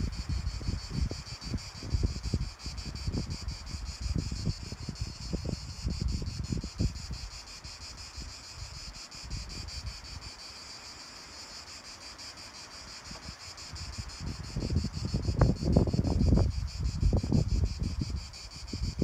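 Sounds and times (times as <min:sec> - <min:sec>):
wind rumble on microphone: 0:00.0 - 0:10.3, 0:13.0 - 0:19.0
insects chorus pulsing: 0:00.0 - 0:19.0.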